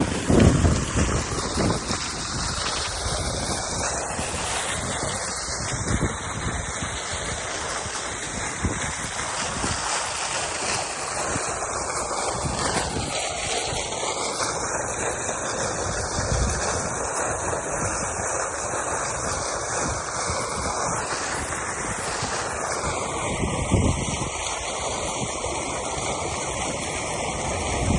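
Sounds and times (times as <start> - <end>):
water fountain splashing: 0.0 - 27.9
wind buffeting microphone: 0.0 - 27.9.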